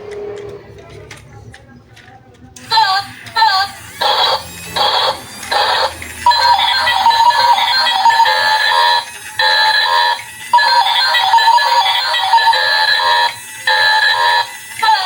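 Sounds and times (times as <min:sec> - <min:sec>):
tinny electronic toy tune: 0:02.7 - 0:15.0.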